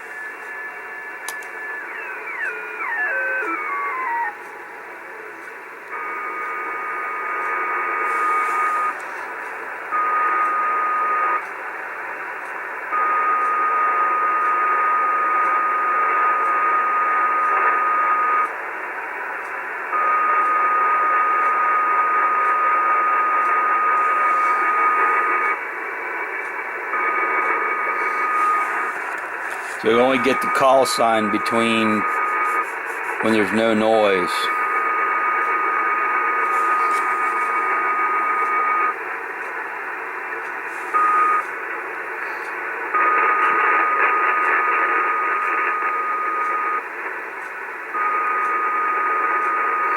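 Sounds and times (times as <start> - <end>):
radio band hiss: 0.0 - 49.9.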